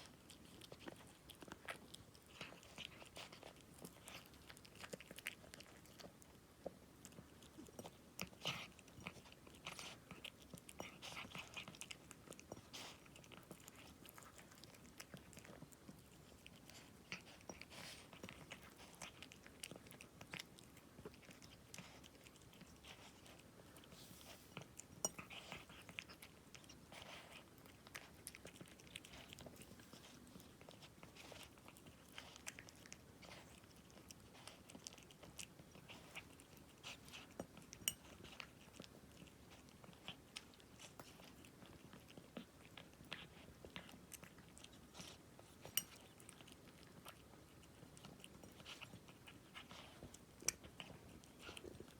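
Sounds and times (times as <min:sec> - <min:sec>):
cat chewing treats: 0:00.0 - 0:51.9.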